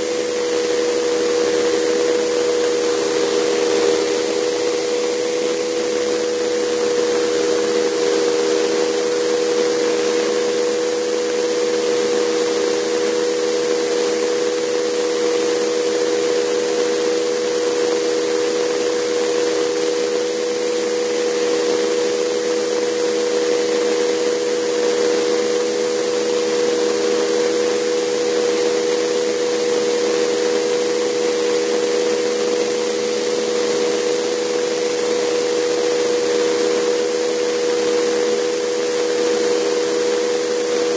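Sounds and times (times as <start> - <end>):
model helicopter turbine and rotor: 0.0 - 40.9.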